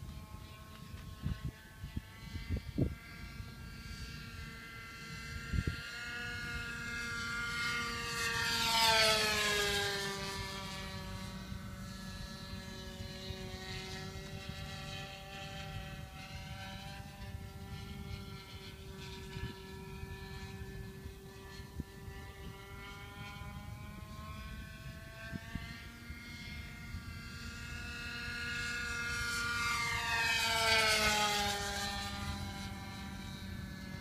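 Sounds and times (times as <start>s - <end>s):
model airplane engine droning: 0.0s - 34.0s.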